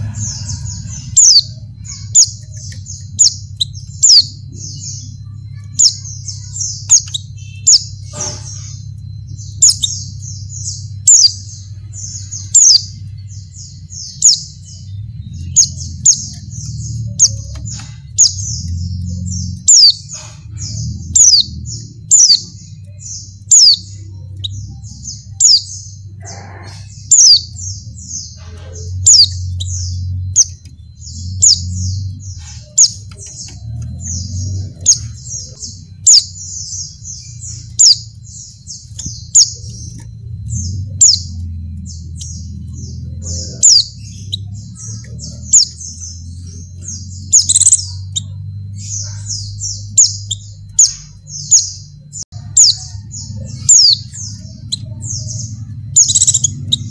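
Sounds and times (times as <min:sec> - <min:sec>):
bird chattering high chirps: 0:00.0 - 0:56.9
steady low hum: 0:00.0 - 0:56.9.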